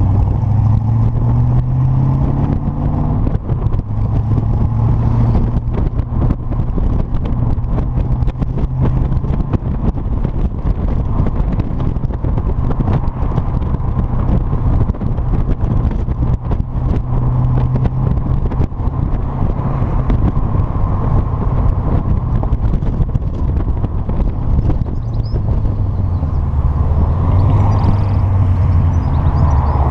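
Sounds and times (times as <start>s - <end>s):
deep engine exhaust note: 0.0s - 29.9s.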